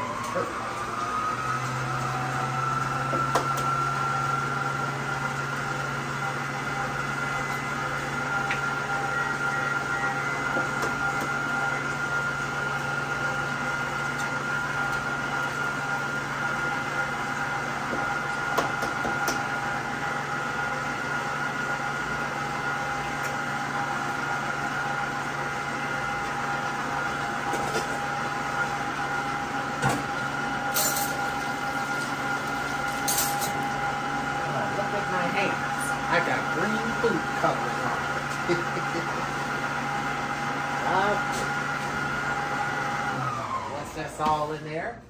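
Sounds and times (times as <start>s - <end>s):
stand mixer motor whine: 0.0s - 44.9s.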